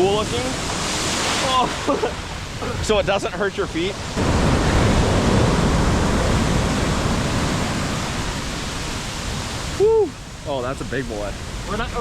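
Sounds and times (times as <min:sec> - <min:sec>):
ocean wave breaking and washing: 0:00.0 - 0:12.0.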